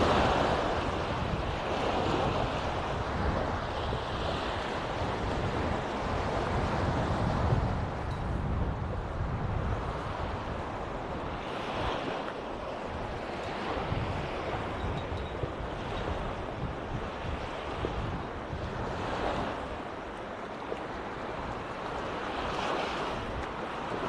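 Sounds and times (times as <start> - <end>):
waves breaking on a sandy beach: 0.0 - 24.0
wind on microphone: 0.0 - 24.0.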